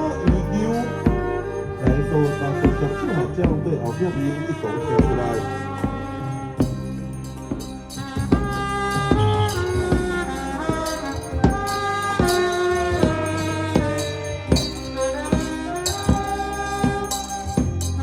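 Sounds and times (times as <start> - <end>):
live band music: 0.0 - 18.0
struck percussion: 0.0 - 18.0.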